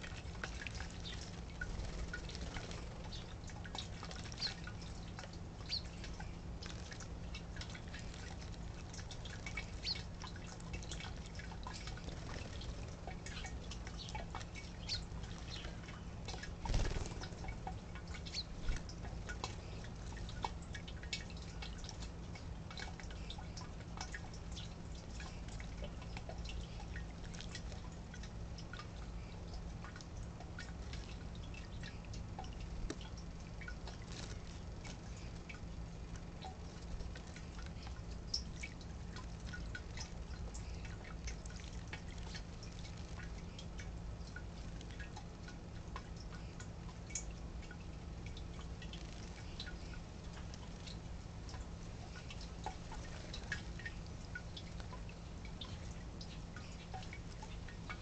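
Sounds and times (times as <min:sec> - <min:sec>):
steady low hum: 0:00.0 - 0:58.0
water splashing and dripping: 0:00.0 - 0:58.0.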